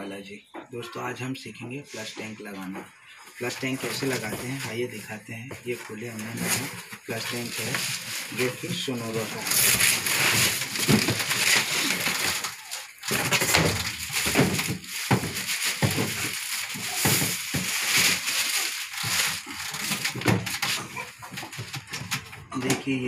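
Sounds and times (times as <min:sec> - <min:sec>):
plastic packaging crinkling: 0:03.2 - 0:22.4.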